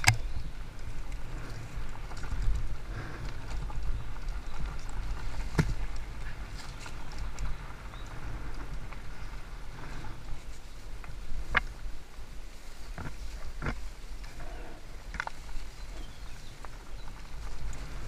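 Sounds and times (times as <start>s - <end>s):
tyres rumbling over dirt: 0.0s - 18.0s.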